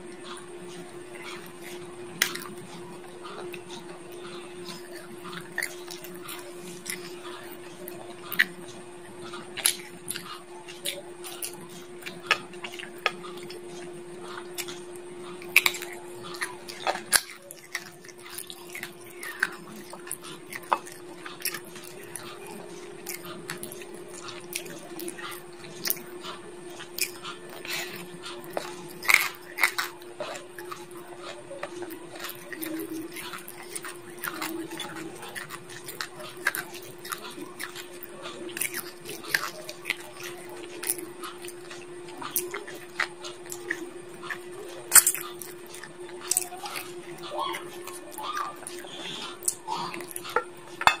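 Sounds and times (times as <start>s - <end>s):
chewing chicken bones: 0.0s - 51.0s
steady low hum: 0.0s - 51.0s.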